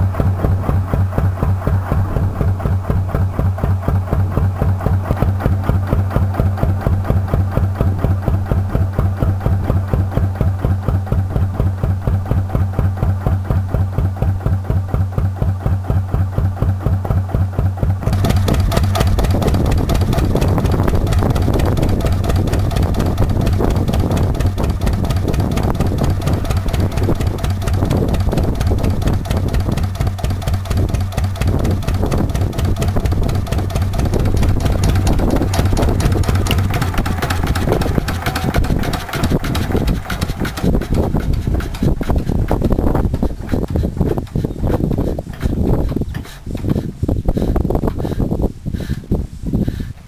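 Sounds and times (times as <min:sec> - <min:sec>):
stationary diesel engine running: 0:00.0 - 0:49.0.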